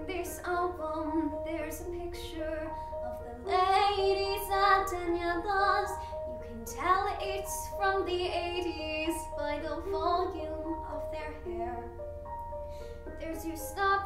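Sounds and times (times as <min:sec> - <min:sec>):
girl singing a ballad: 0:00.0 - 0:12.0, 0:12.7 - 0:14.0
piano accompaniment: 0:00.0 - 0:14.0.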